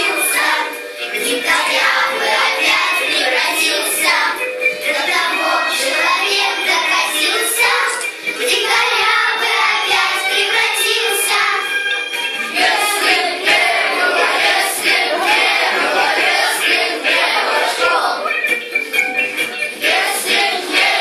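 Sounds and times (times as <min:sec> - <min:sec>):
girls singing in chorus: 0:00.0 - 0:11.7, 0:12.4 - 0:18.3, 0:19.8 - 0:21.0.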